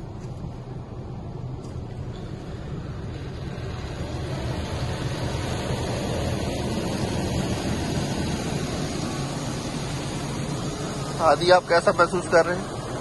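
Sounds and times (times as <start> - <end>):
low hum: 0.0 - 13.0
water jets spraying on car: 0.0 - 13.0.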